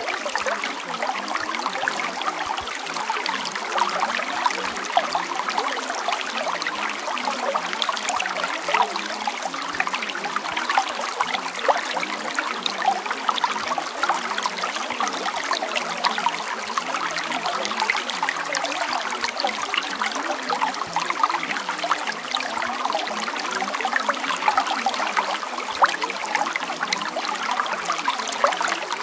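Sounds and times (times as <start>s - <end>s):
water trickling and babbling: 0.0s - 29.0s.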